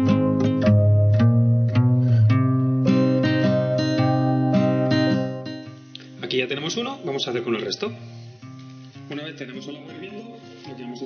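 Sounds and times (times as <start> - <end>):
acoustic guitar picking chords: 0.0 - 11.0.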